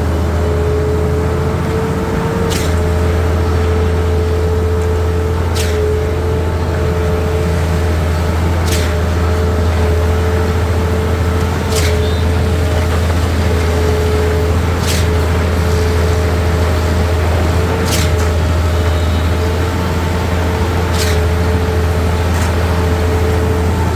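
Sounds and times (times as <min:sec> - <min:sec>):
diesel truck engine running: 0:00.0 - 0:23.9.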